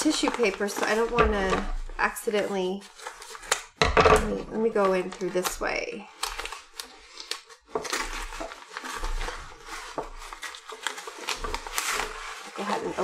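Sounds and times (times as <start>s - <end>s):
paper packaging rustling: 0.0s - 13.0s.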